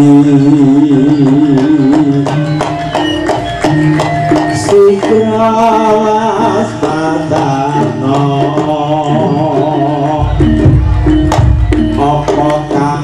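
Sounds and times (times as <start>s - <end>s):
drum strokes: 0.0s - 13.0s
gamelan ensemble music: 0.0s - 13.0s.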